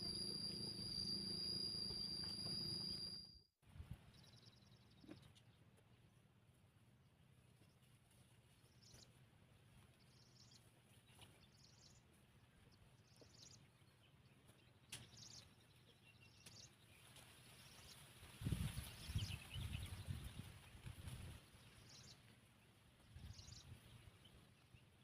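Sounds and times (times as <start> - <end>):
faint bird chirping: 3.9 - 6.3, 7.0 - 25.0.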